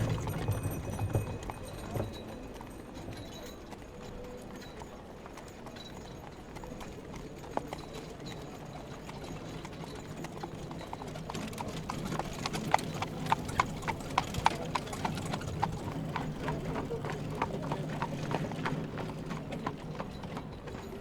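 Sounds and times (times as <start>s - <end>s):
horse hooves clip-clopping on street: 0.0s - 21.0s
low street murmur: 0.0s - 21.0s.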